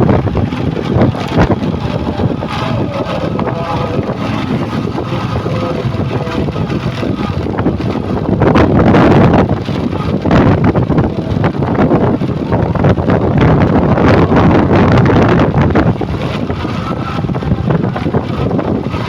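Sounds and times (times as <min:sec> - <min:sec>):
heavy truck engine running: 0:00.0 - 0:19.0
wind on microphone: 0:00.0 - 0:19.0.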